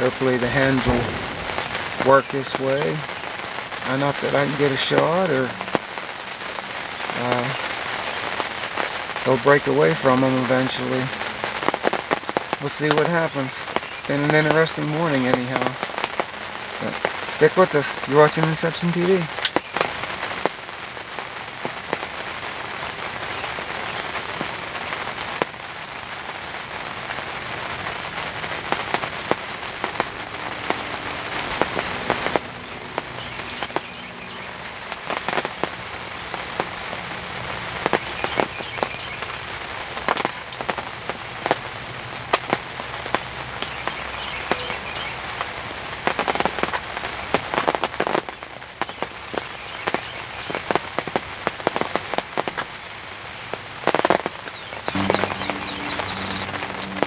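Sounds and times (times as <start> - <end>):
heavy rain falling: 0.0 - 57.0
raindrops tapping close by: 0.0 - 57.0.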